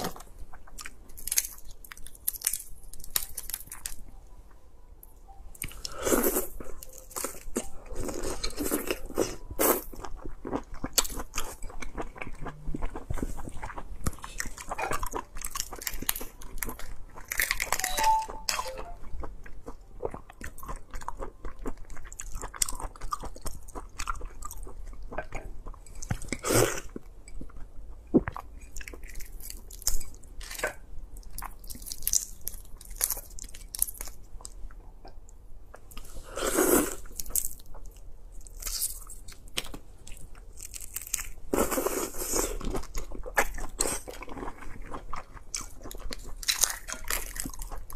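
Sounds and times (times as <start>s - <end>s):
chewing: 5.6s - 17.9s, 19.2s - 34.8s, 35.7s - 47.9s.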